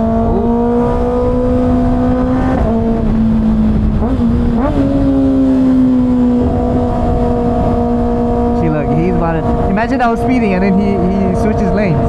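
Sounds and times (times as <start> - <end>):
motorcycle engine cruising: 0.0 - 12.0
wind noise: 0.0 - 12.0.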